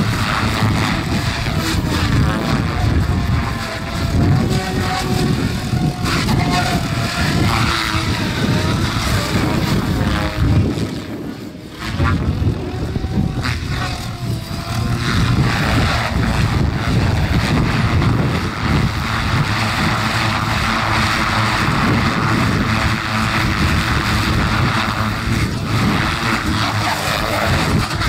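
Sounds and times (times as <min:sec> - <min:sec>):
helicopter rotor blades rushing: 0:00.0 - 0:28.0.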